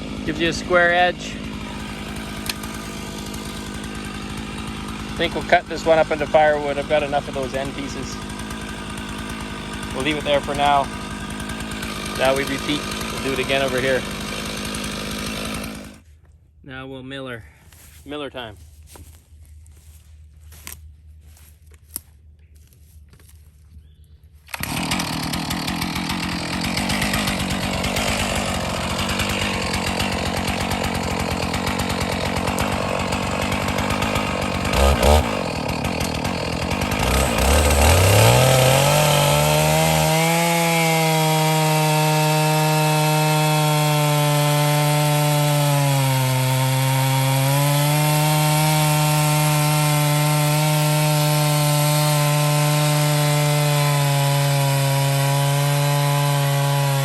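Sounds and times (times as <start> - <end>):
chainsaw ripping a log: 0.0 - 16.3, 17.6 - 57.0.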